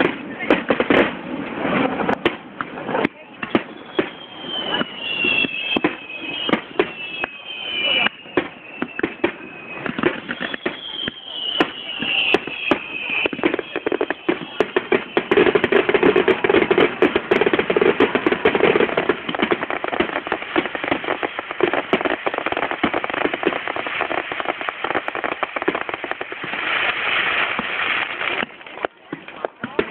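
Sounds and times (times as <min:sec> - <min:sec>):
firework bursts banging: 0:00.0 - 0:29.9
firework crackling: 0:00.0 - 0:29.9
firework whistles falling: 0:03.0 - 0:28.6.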